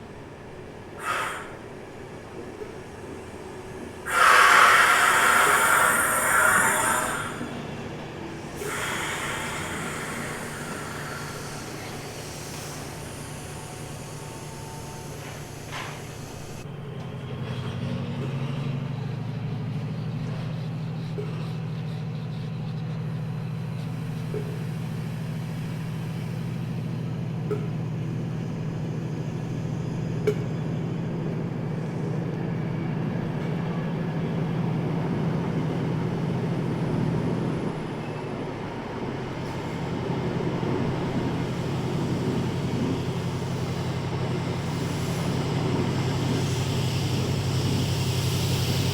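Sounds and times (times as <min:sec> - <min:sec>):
train running low drone: 0:00.0 - 0:48.9.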